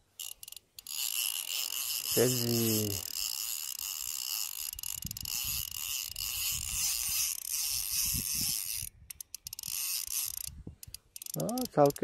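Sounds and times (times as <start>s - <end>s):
fishing reel cranking: 0.1s - 12.0s
reel clicks: 0.1s - 12.0s.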